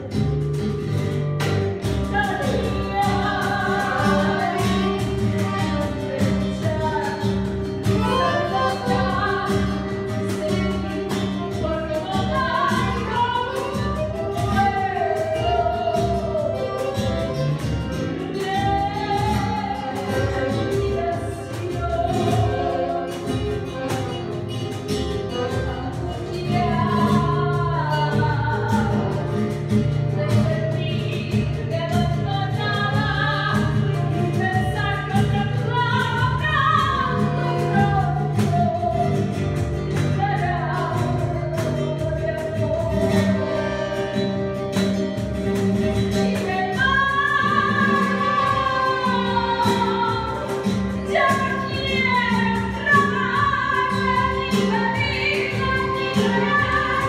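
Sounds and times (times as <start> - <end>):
woman singing: 0.0 - 0.8, 1.7 - 44.4, 45.0 - 57.0
accordion: 0.0 - 57.0
acoustic guitar: 0.0 - 57.0.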